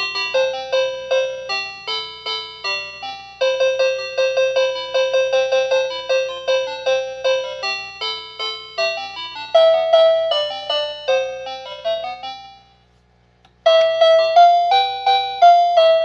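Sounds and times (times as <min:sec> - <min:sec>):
toy telephone chiming tune: 0:00.0 - 0:12.8, 0:13.7 - 0:16.0.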